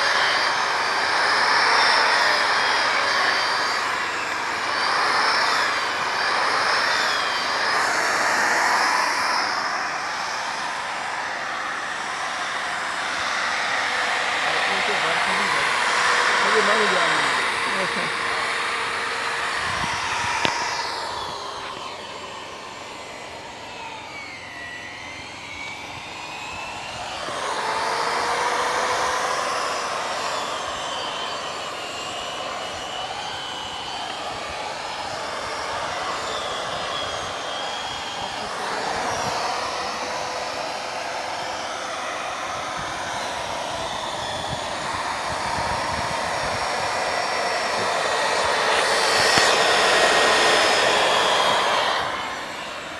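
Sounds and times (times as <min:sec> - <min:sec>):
electric drill whining: 0:00.0 - 0:52.9.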